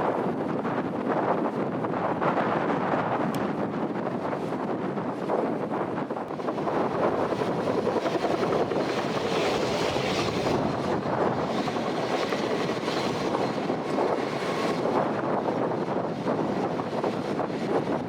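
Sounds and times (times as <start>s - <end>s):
aircraft engines rumbling: 0.0s - 18.0s
wind buffeting microphone: 0.0s - 18.0s.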